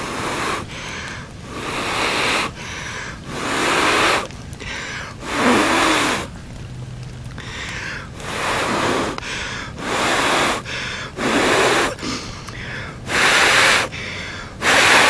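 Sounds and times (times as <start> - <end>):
person blowing hissing breaths: 0.0 - 6.3, 7.4 - 15.0.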